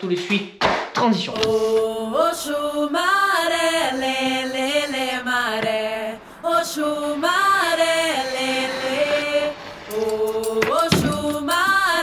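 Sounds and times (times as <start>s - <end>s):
person singing chant-like melody: 1.3s - 12.0s.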